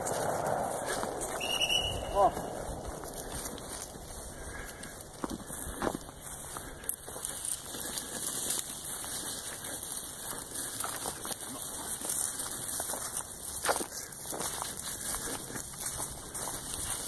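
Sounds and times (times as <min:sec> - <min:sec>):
dry stems rustling: 0:00.0 - 0:17.0
footsteps crunching through dry grass: 0:00.0 - 0:17.0.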